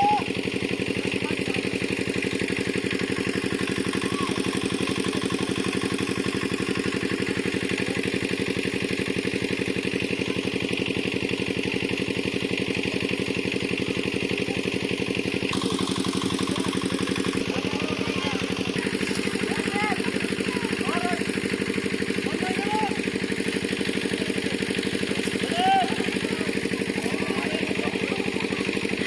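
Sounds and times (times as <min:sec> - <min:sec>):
pump engine running: 0:00.0 - 0:29.0.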